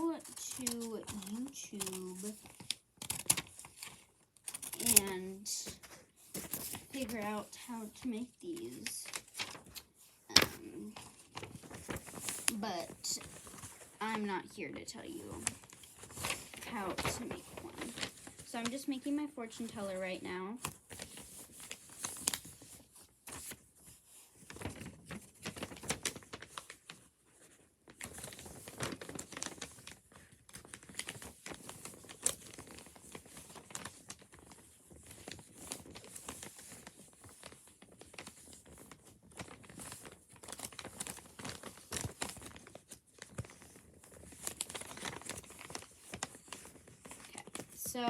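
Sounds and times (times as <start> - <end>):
paper crinkling and crackling: 0.0 - 48.0.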